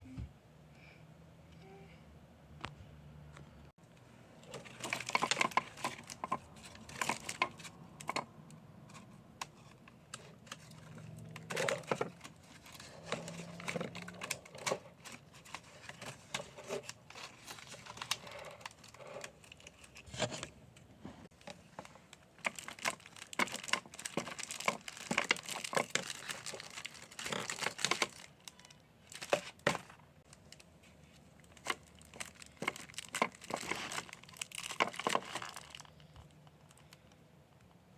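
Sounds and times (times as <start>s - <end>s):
paper crinkling and rustling: 4.4s - 8.3s, 8.9s - 20.5s, 21.2s - 37.0s.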